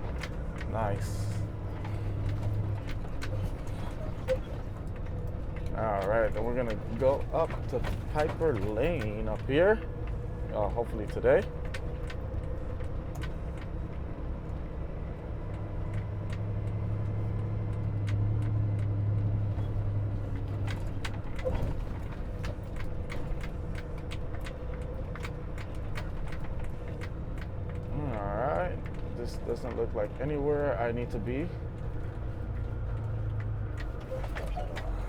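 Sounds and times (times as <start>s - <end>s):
light rattles and clicks: 0.0s - 35.0s
truck diesel engine running: 0.0s - 35.0s.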